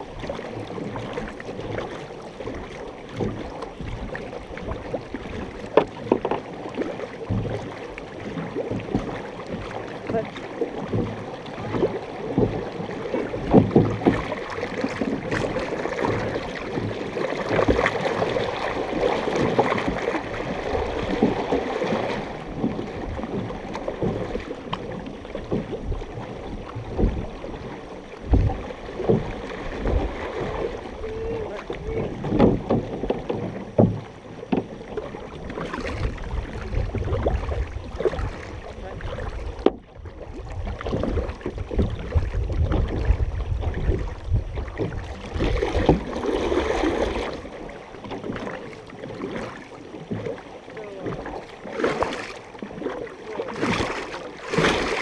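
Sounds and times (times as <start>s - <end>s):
canoe paddles splashing: 0.0s - 55.0s
water washing along hull: 0.0s - 55.0s.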